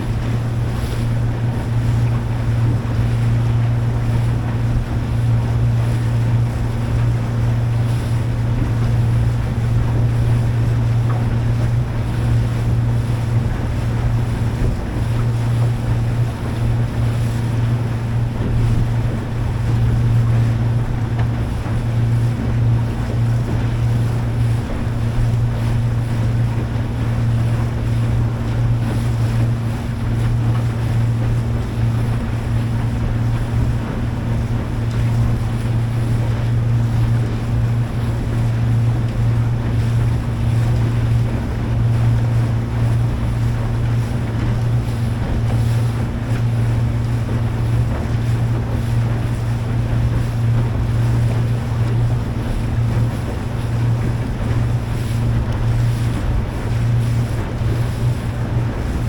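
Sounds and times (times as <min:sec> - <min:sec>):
boat engine droning: 0:00.0 - 0:59.0
water noise: 0:00.0 - 0:59.0
wind buffeting microphone: 0:00.0 - 0:59.0.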